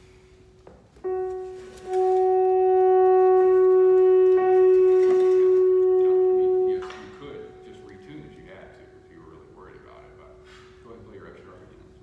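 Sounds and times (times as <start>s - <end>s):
saxophone holding long note: 1.0s - 11.7s.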